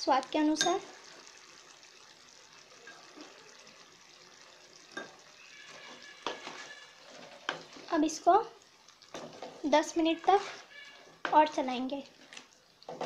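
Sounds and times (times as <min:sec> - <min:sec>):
curry sizzling while stirred: 0:00.0 - 0:13.0.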